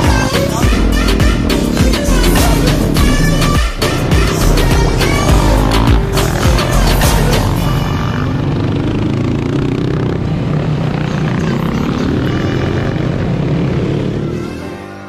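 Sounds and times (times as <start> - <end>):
dirt bike engine running: 0.0 - 14.6.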